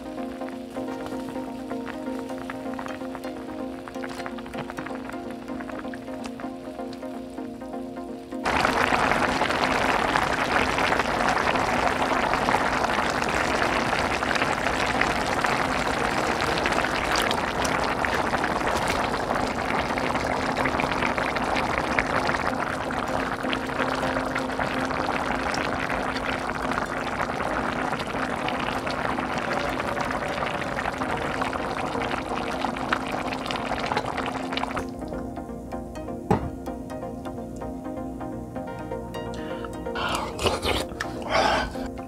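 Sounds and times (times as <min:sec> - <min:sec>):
stew boiling and bubbling: 0:00.0 - 0:35.4, 0:39.4 - 0:42.0.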